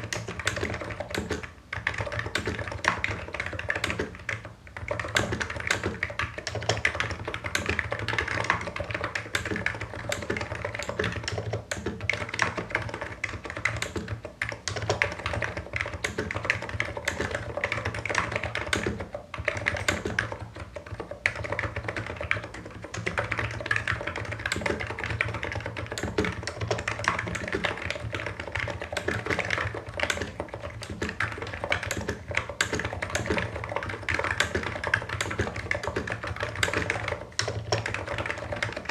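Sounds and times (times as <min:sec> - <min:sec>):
keyboard typing: 0:00.0 - 0:38.9.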